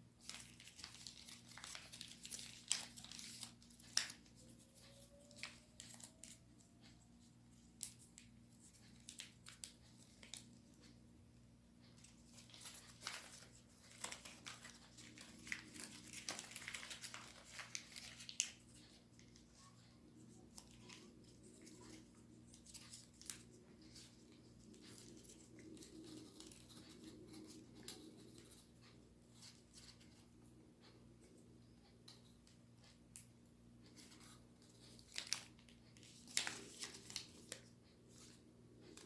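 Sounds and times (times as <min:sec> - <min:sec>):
paper crinkling and rustling: 0:00.2 - 0:11.0, 0:11.8 - 0:30.4, 0:32.1 - 0:39.0.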